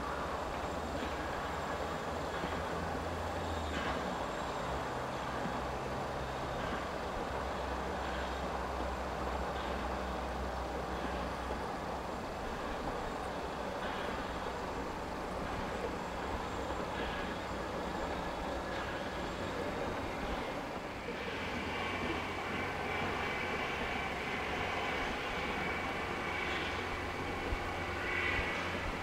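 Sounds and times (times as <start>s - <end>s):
distant steam train rumble: 0.0s - 29.0s
low drone: 0.0s - 29.0s.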